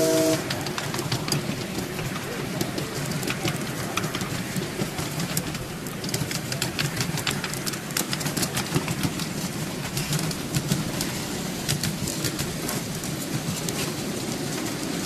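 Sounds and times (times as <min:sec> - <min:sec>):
miniature train rumbling: 0:00.0 - 0:15.0
wheel clicks over rail joints: 0:00.0 - 0:15.0.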